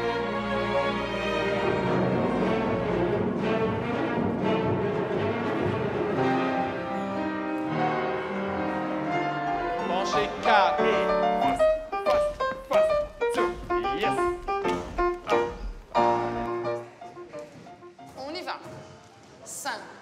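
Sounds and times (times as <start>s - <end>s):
classical piano and strings music: 0.0s - 19.5s.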